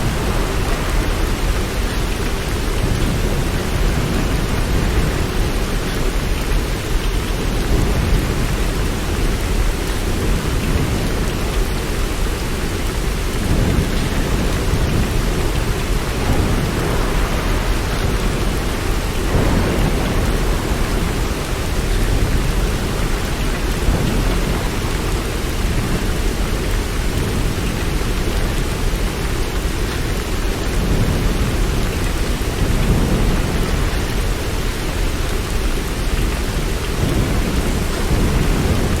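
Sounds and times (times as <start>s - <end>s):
thunder rumbling: 0.0s - 29.8s, 30.4s - 39.0s
steady rain falling: 0.0s - 39.0s.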